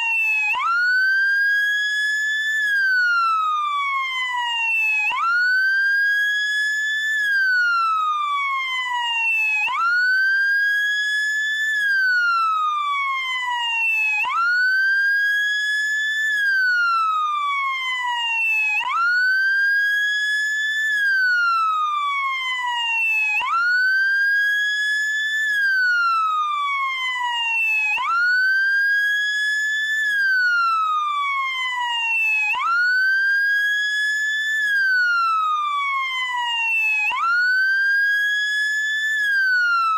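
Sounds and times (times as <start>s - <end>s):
electronic wail siren: 0.0s - 39.9s.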